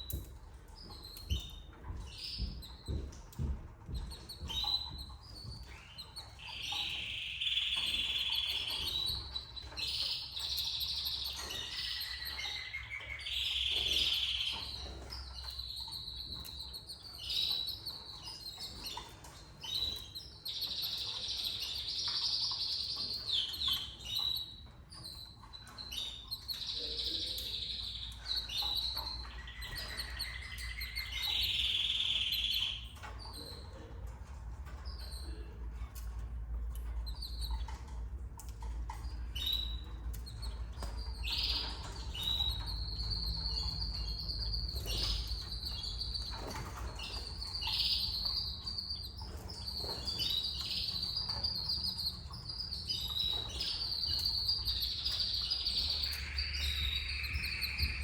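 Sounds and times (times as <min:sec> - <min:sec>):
canaries chirping and trilling: 0:00.0 - 0:58.0.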